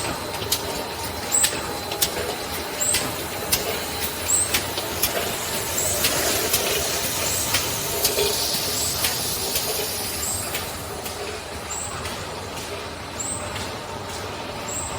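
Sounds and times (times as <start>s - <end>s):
production line machinery running: 0.0s - 14.9s.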